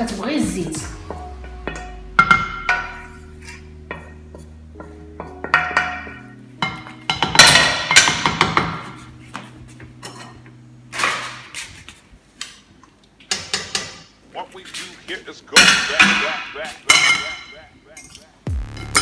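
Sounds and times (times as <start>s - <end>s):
background music: 0.0s - 12.0s, 15.4s - 19.0s.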